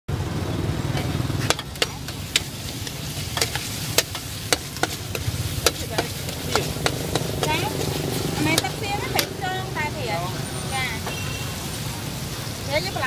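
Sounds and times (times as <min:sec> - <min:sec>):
low sizzle: 0:00.1 - 0:13.0
metal spatula scraping wok: 0:00.9 - 0:11.8.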